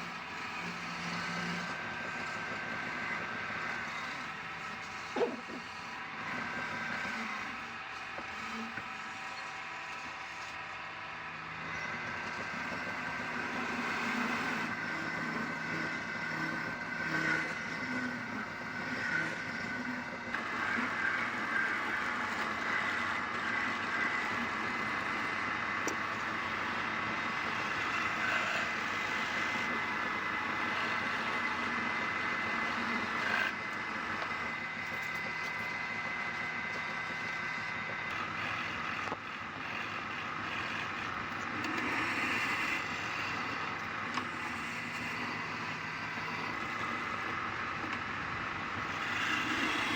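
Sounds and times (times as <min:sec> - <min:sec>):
wood lathe whining: 0:00.0 - 0:49.9.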